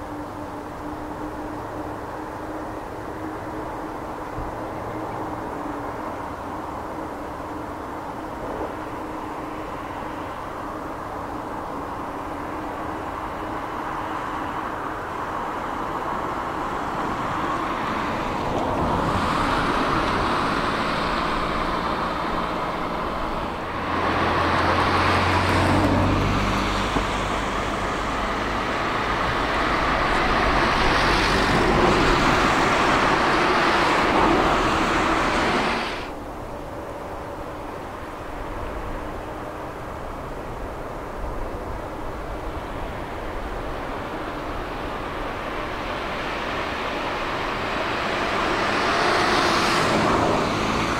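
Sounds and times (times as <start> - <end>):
jet engines roaring at takeoff: 0.0 - 50.9.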